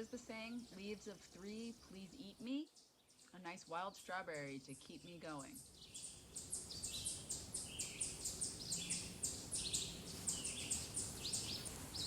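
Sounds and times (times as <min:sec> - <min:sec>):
forest birds chirping: 0:00.0 - 0:12.0.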